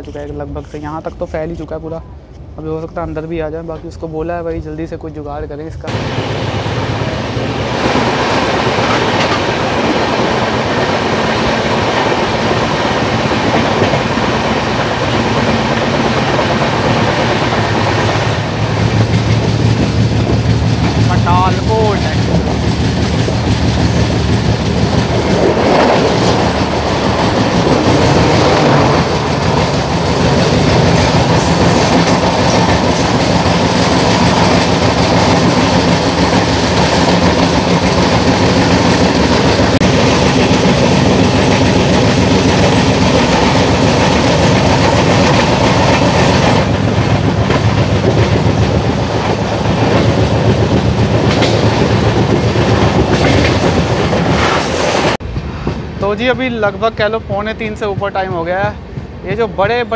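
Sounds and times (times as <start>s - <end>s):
train passing at speed: 0.0s - 59.9s
clickety-clack of train wheels: 5.9s - 59.9s.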